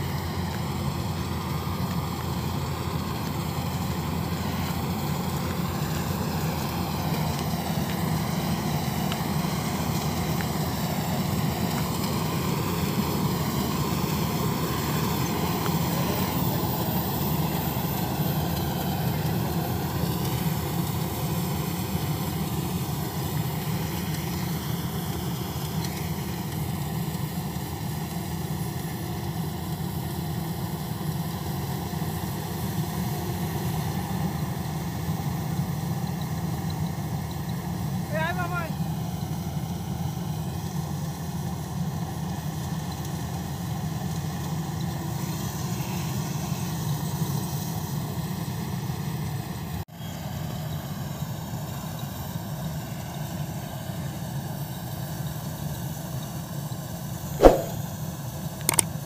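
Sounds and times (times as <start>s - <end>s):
combine harvester engine drone: 0.0s - 56.3s.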